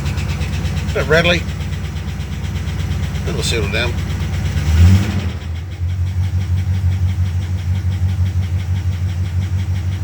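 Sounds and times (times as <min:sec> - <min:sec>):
car engine idling rattly: 0:00.0 - 0:10.0.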